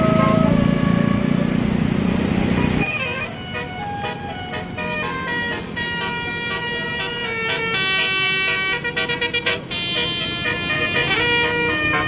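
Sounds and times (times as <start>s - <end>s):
multi-tone bus horn playing a tune: 0.0s - 12.0s.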